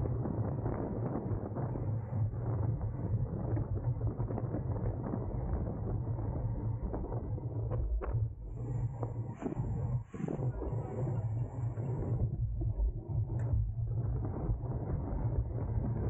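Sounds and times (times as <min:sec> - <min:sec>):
bicycle road noise: 0:00.0 - 0:16.0
wind rush: 0:00.0 - 0:16.0.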